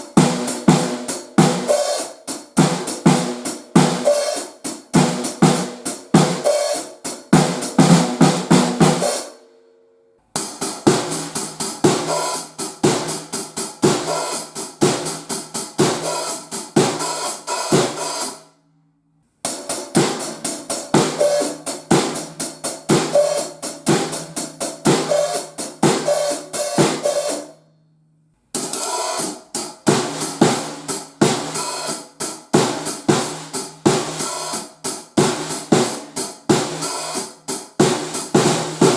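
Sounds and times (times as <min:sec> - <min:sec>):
drum kit playing grooves: 0:00.0 - 0:09.3, 0:10.4 - 0:18.4, 0:19.5 - 0:27.5, 0:28.6 - 0:38.9.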